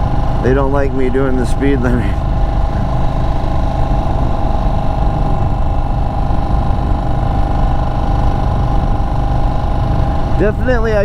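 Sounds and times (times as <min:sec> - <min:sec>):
low wind rumble: 0:00.0 - 0:11.0
motorcycle engine running: 0:00.0 - 0:11.0.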